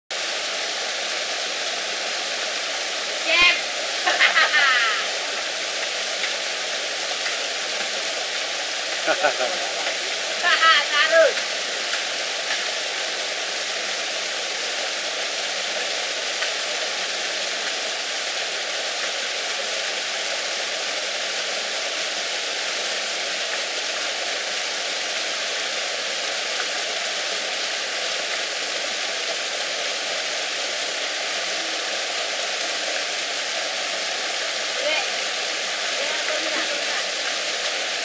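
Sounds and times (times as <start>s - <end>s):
steady rushing hiss: 0.2s - 38.0s.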